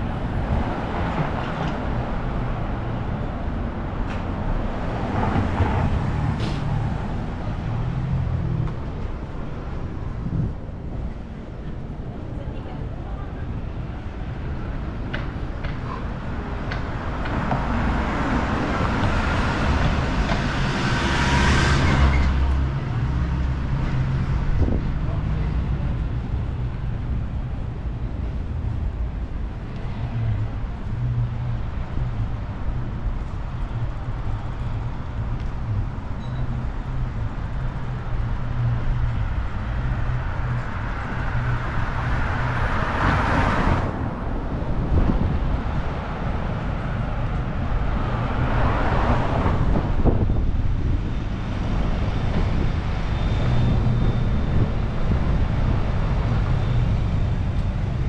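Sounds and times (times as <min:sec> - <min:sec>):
traffic engine rumble: 0:00.0 - 0:58.0
vehicles passing close by: 0:00.0 - 0:58.0.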